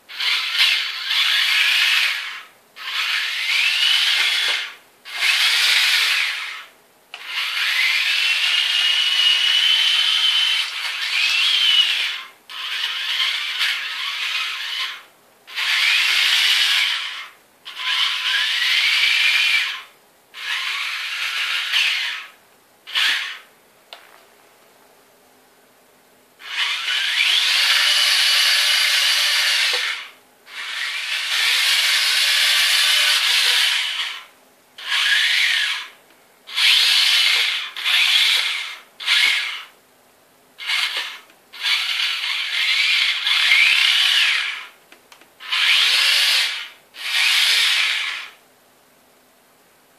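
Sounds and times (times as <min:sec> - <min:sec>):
electric gear motors whining: 0:00.1 - 0:23.5, 0:26.4 - 0:39.8, 0:40.6 - 0:44.8, 0:45.4 - 0:48.4.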